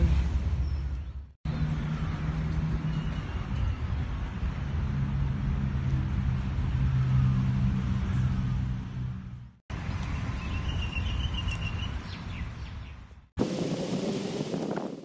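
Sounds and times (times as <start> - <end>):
city traffic hum: 0.0 - 13.3.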